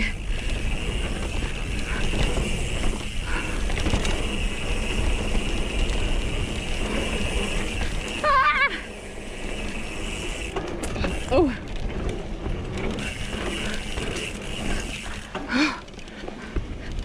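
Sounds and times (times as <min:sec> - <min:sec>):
bike rattling: 0:00.0 - 0:17.0
bike tyres on dirt: 0:00.0 - 0:17.0.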